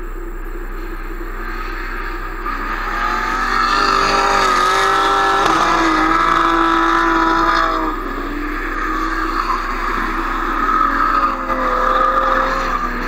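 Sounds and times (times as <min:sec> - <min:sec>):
car engine revving hard: 0:00.7 - 0:13.0.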